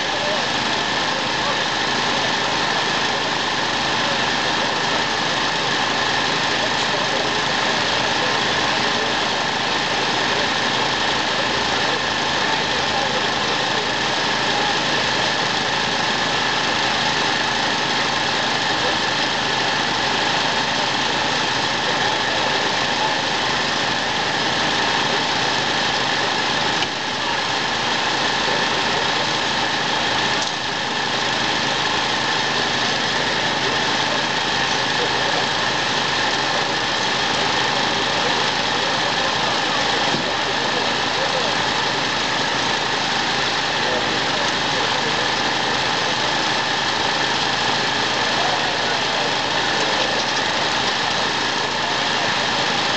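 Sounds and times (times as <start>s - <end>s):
engine idling: 0.0s - 52.9s.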